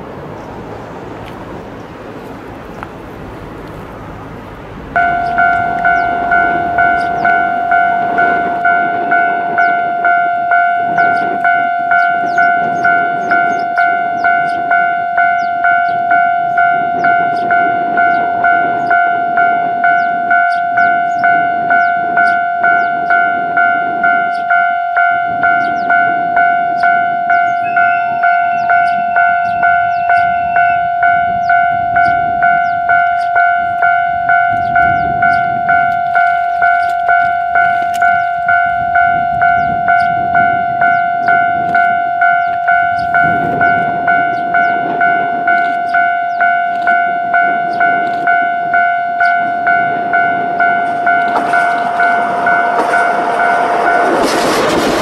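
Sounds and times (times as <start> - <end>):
level-crossing alarm bell: 4.9 - 55.0.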